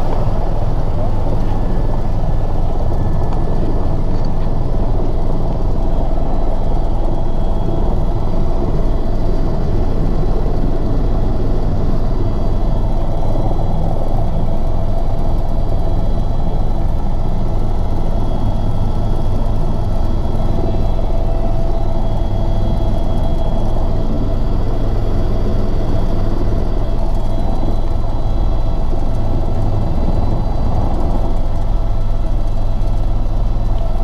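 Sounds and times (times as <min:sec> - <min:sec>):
helicopter engine and rotor drone: 0:00.0 - 0:34.0
thin steady whine: 0:00.0 - 0:34.0.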